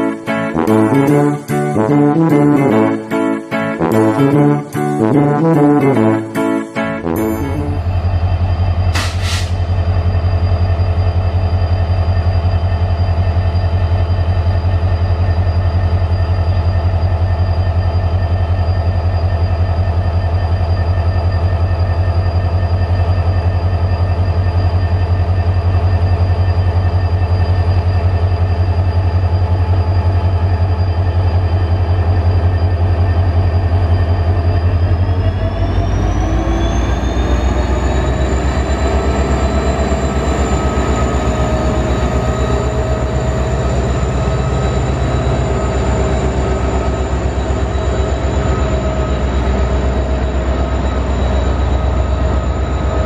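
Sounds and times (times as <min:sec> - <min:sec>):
freight train low drone: 0:00.0 - 0:53.0.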